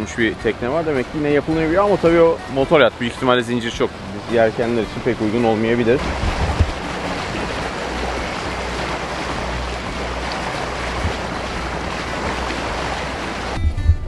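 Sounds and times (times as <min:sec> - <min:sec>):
water rushing: 0:00.0 - 0:13.6
wind: 0:00.0 - 0:14.0.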